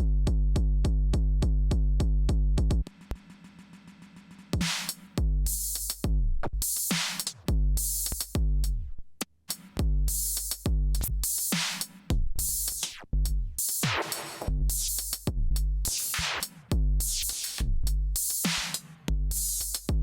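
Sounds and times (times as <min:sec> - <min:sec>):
drum machine beat: 0:00.0 - 0:03.5, 0:04.2 - 0:20.0.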